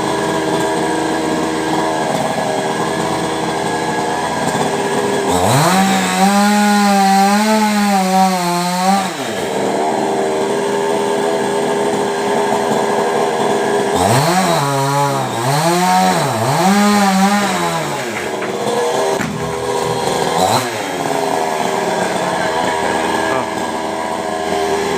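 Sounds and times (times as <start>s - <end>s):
chainsaw engine revving and idling: 0.0s - 24.9s.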